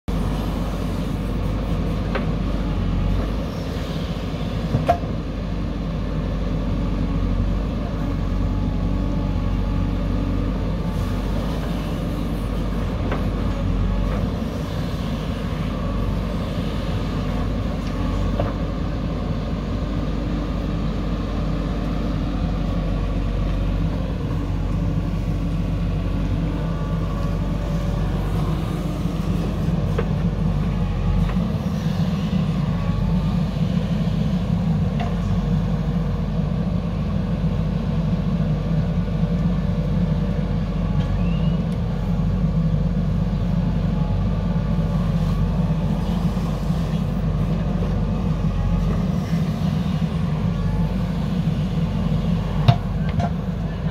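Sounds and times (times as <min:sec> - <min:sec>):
diesel engine running under load: 0:00.1 - 0:53.9.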